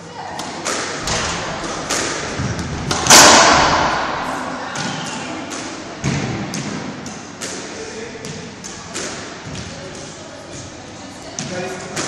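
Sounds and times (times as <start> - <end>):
squash ball and racket smacks: 0.4 - 10.1.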